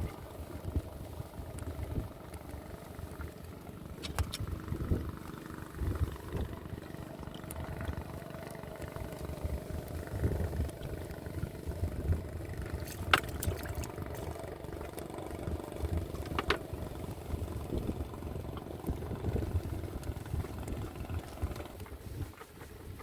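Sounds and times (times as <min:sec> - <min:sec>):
low steady engine rumble: 0:00.0 - 0:23.0.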